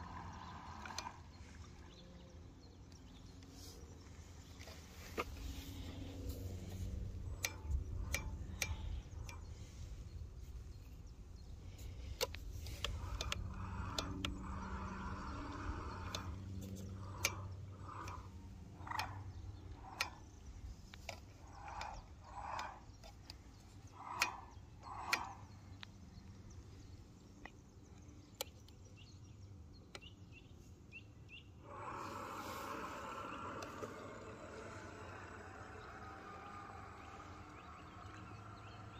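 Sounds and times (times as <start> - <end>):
birds calling: 0.0 - 38.9
faint low hum: 0.0 - 38.9
sharp clicks: 4.5 - 30.3, 31.6 - 38.9.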